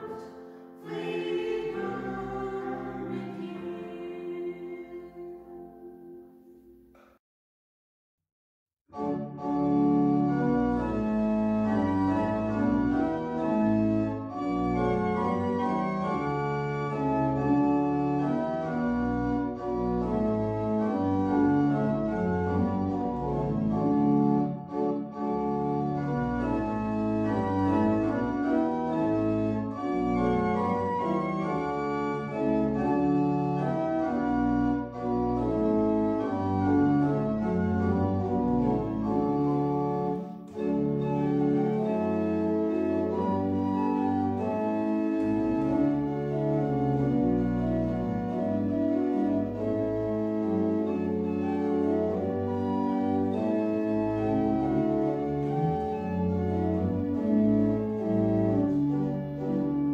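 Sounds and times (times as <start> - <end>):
pipe organ chords: 0.0 - 7.1, 8.9 - 59.9.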